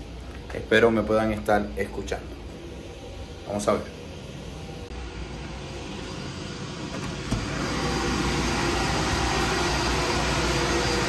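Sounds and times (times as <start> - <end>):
cooling fans whooshing: 0.0 - 11.0.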